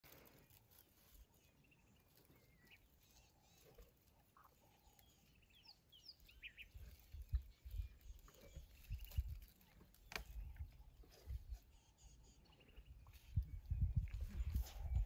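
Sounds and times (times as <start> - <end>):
faint bird chirps and trills: 0.3 - 15.0.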